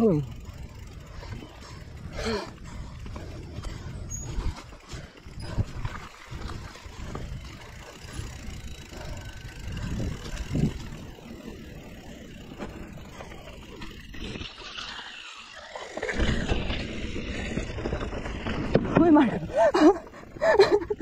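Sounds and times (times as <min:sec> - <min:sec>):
tyres rumbling on dirt: 0:00.2 - 0:21.0.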